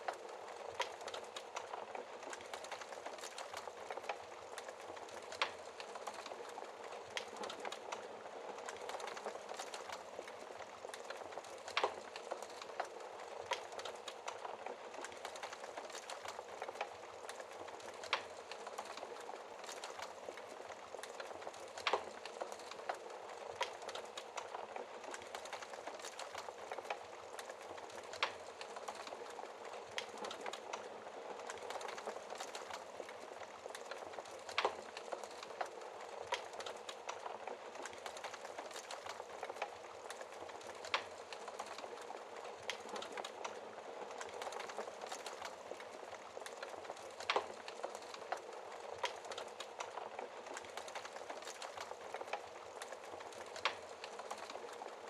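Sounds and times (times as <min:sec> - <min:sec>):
logs crackling in fireplace: 0:00.0 - 0:55.0
fire popping: 0:00.1 - 0:55.0.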